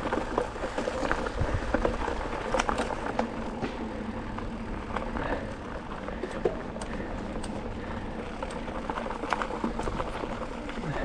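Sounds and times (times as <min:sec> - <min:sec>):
bike clicking and rattling: 0:00.0 - 0:11.0.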